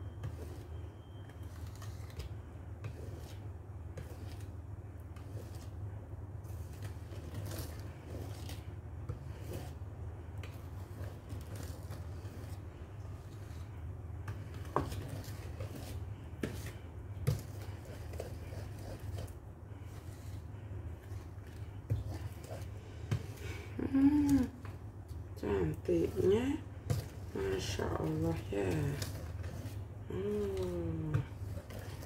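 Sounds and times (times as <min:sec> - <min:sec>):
whisk scraping a metal bowl: 0:00.0 - 0:04.5, 0:06.4 - 0:23.5, 0:25.6 - 0:32.0
steady low hum: 0:02.0 - 0:32.0.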